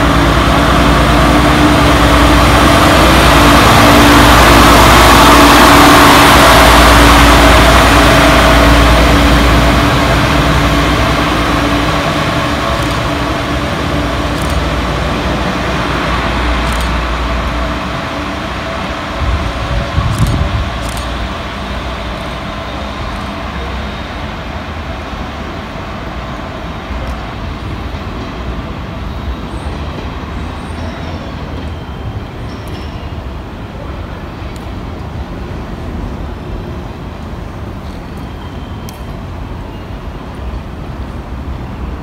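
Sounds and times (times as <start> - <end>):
diesel railcar rumbling: 0.0 - 42.0.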